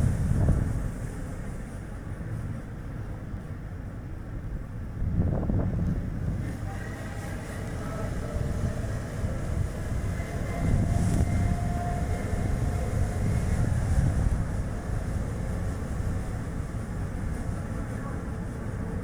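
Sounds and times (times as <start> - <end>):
wind gusting over microphone: 0.0 - 2.4, 4.9 - 19.0.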